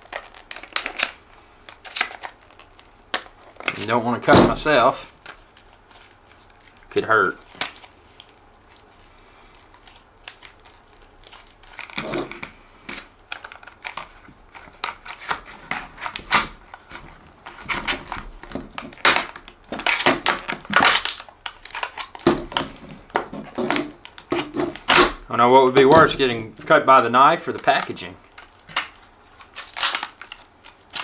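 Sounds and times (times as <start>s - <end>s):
plastic blister pack crackling: 0.0s - 31.0s.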